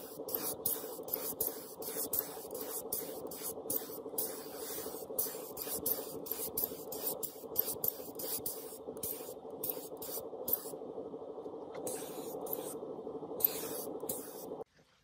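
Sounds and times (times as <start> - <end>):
spray gun hissing bursts: 0.0 - 10.8, 11.8 - 14.6
steady low hum: 0.0 - 14.7.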